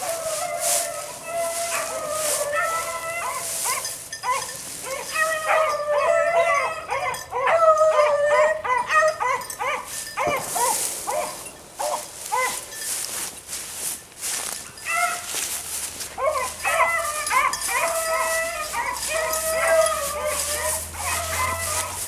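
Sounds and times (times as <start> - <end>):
dogs baying and barking: 0.0 - 22.0.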